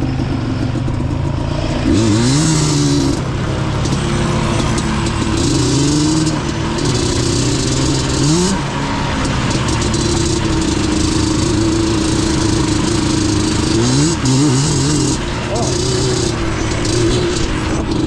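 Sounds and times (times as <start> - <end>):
two-stroke engine running: 0.0 - 18.0.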